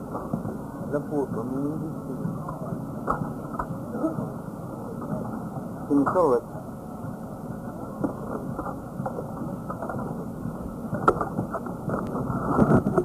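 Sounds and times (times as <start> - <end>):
muffled background noise: 0.0 - 13.0.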